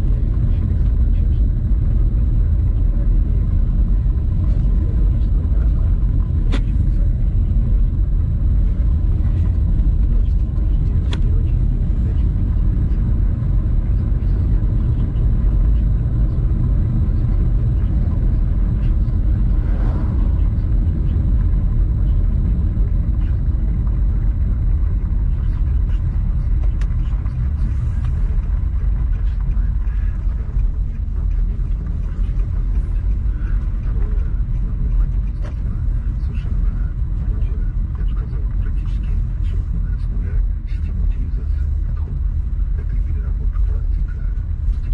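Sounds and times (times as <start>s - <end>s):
car driving low rumble: 0.0s - 44.9s.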